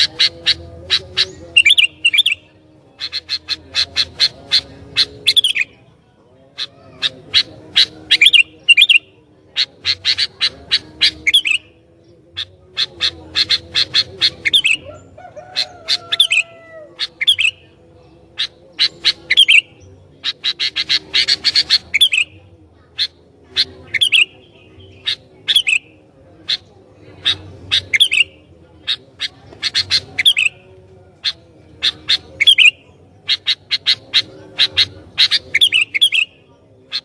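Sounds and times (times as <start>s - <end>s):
bulbul calling: 0.0s - 5.9s, 6.5s - 37.0s.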